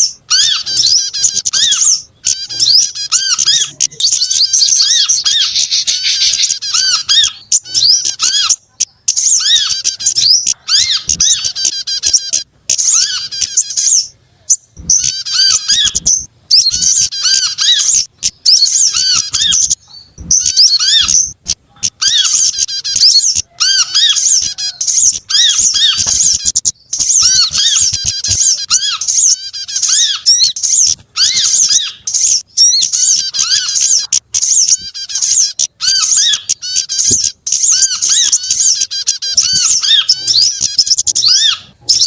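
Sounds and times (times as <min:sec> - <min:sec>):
small songbirds chirping: 0:00.0 - 0:42.0.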